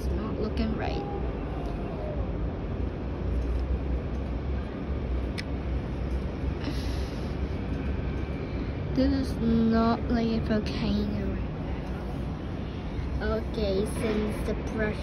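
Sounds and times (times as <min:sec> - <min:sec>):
construction work rumble: 0:00.0 - 0:15.0.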